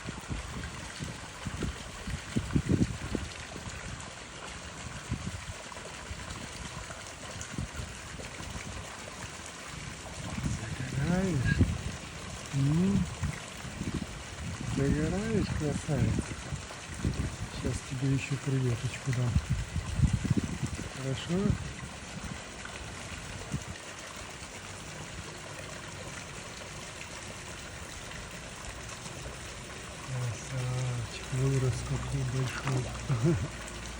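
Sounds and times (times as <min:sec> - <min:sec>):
trickling running water: 0:00.0 - 0:33.9.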